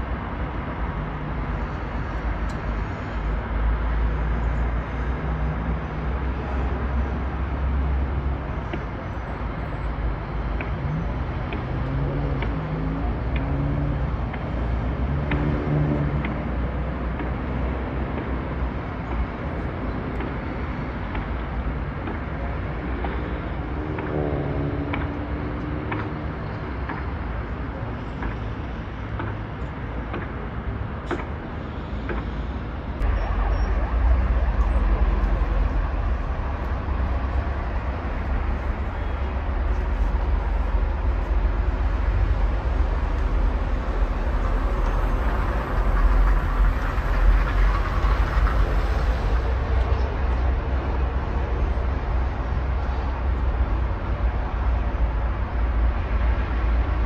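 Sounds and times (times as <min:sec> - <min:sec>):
distant road traffic hum: 0:00.0 - 0:57.0.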